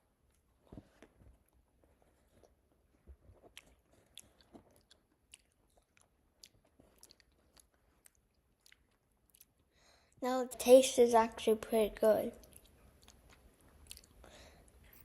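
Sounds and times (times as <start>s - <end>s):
chewing crunchy ice cream bar: 0.0s - 9.8s, 12.3s - 15.0s.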